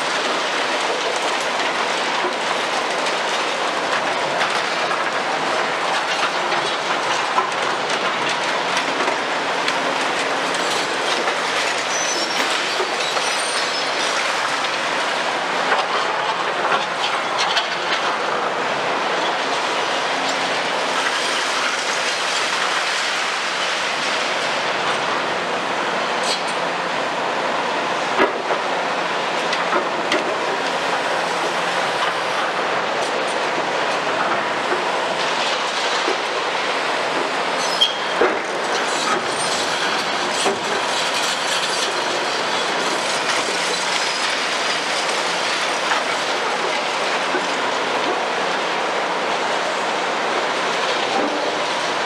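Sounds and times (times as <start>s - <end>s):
excavator engine and hydraulics: 0.0s - 52.0s.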